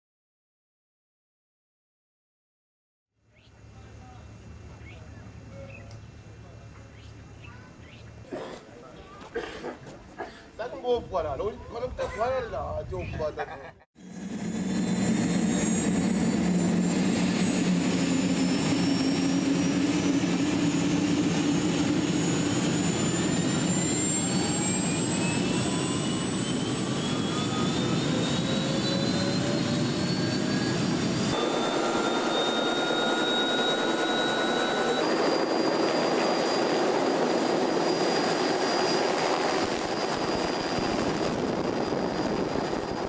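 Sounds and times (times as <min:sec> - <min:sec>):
helicopter turbine whine: 0:03.2 - 0:13.3, 0:14.0 - 0:43.0.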